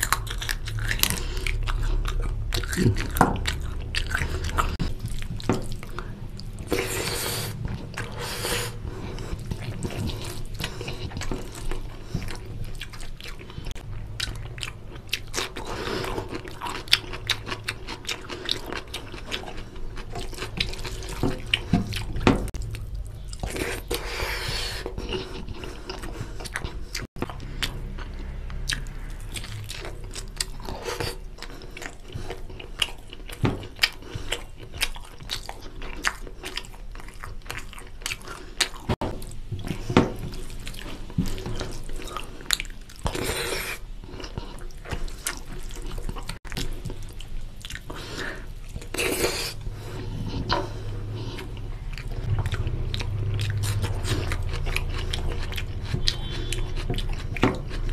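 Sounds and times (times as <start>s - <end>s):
chewing and lip smacking: 0.0s - 57.9s.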